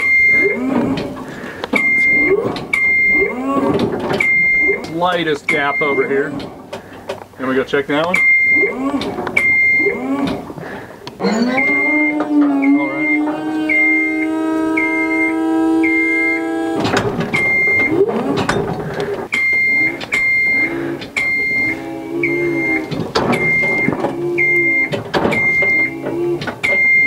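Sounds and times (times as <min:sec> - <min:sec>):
lift alarm beeping: 0:00.0 - 0:06.5, 0:08.0 - 0:10.2, 0:11.2 - 0:18.7, 0:19.3 - 0:27.0
hydraulic pump humming: 0:00.0 - 0:27.0.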